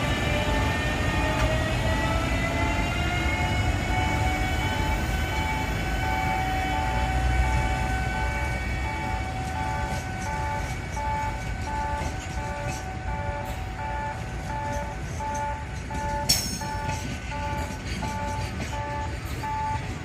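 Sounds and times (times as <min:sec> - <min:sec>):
electric locomotive motors whining: 0:00.0 - 0:20.0.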